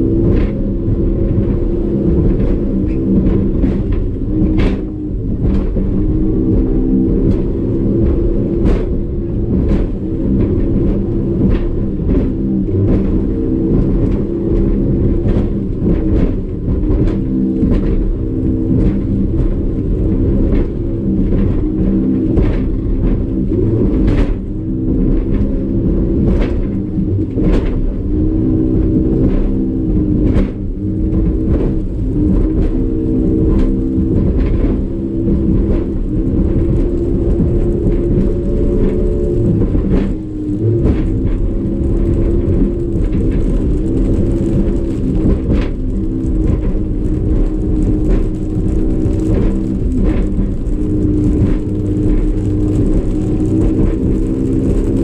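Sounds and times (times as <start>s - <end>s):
hull knocking through waves: 0.0s - 55.0s
outboard motor running hard: 0.0s - 55.0s.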